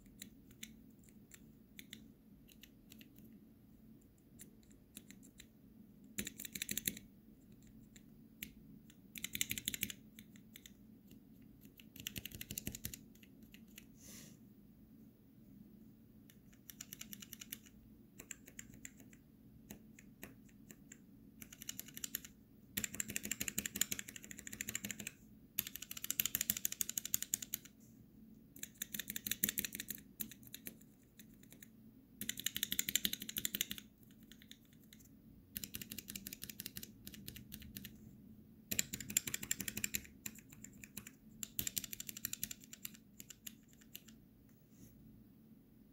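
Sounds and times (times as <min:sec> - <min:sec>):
keyboard switches clicking rapidly: 0:00.0 - 0:03.3, 0:04.3 - 0:05.5, 0:06.1 - 0:13.9, 0:16.3 - 0:27.7, 0:28.6 - 0:38.0, 0:38.7 - 0:44.2.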